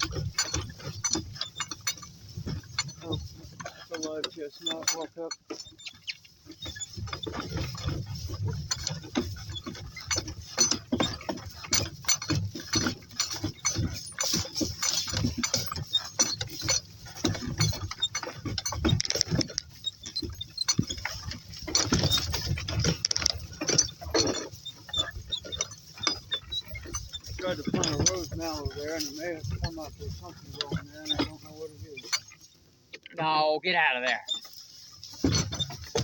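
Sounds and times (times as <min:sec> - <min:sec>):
cart creaking and rattling: 0:00.0 - 0:36.0.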